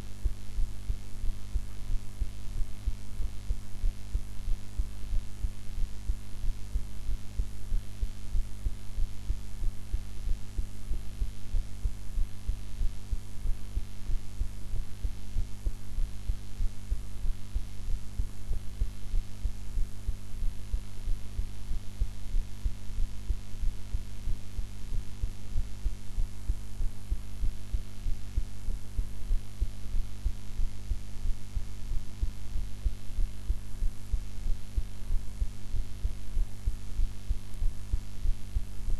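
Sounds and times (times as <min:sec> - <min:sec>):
heart beating: 0:00.2 - 0:38.9.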